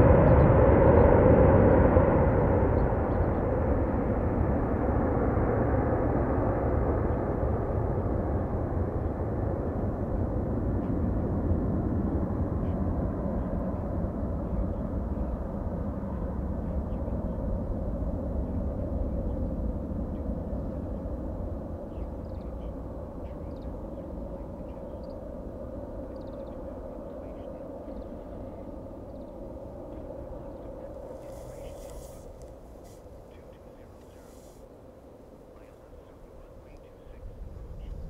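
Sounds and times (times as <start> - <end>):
jet airliner engine rumble: 0.0 - 38.0.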